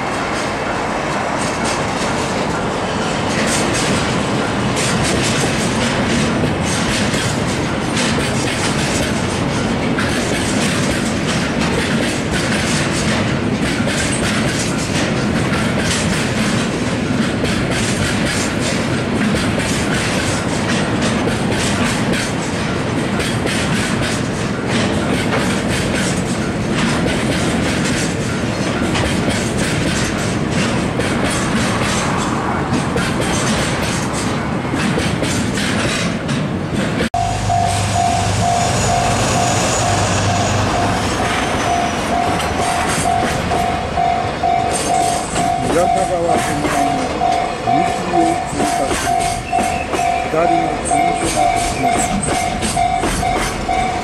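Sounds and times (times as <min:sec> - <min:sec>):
freight train rumbling: 0:00.0 - 0:54.0
wheels clickety-clack on rail joints: 0:00.0 - 0:54.0.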